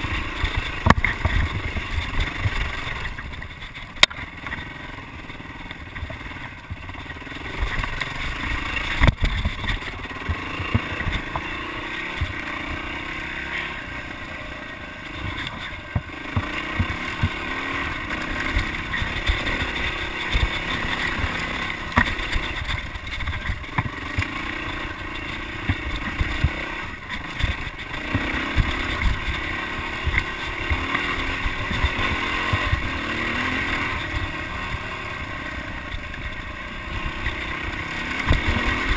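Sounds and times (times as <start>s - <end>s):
bike knocks and rattles: 0.0s - 38.9s
dirt bike engine revving: 0.0s - 38.9s.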